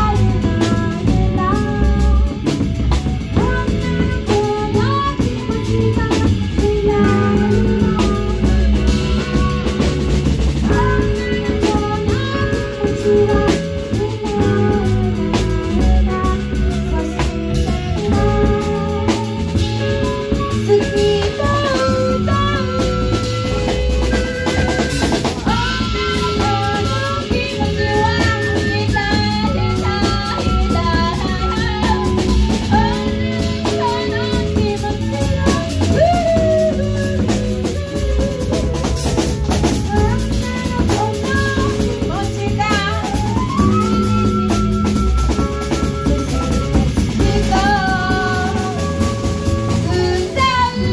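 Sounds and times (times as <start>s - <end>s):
drum kit beat: 0.0s - 50.9s
live band playing: 0.0s - 50.9s
sliding melodic lead line: 0.0s - 50.9s.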